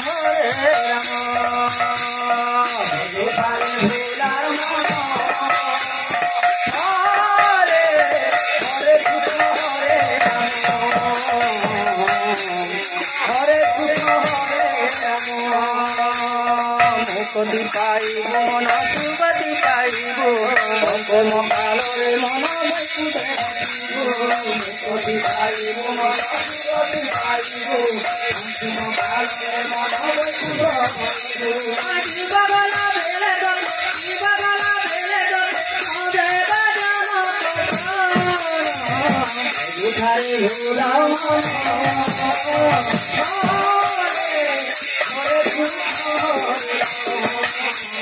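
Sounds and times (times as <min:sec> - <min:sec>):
devotional melody: 0:00.0 - 0:48.0
hand-played barrel drum: 0:00.0 - 0:48.0
small jingling cymbals: 0:00.0 - 0:48.0.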